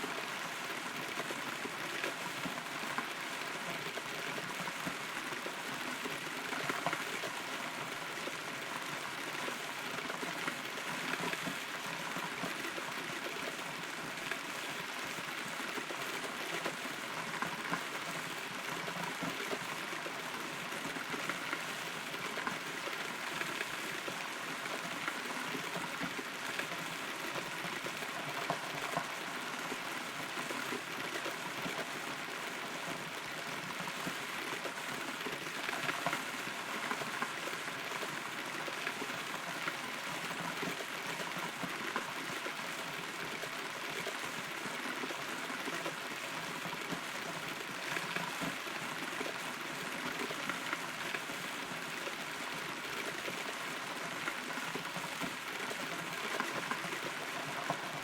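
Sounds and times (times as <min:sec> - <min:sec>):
steady rain: 0:00.0 - 0:58.0
raindrops striking close by: 0:00.1 - 0:58.0.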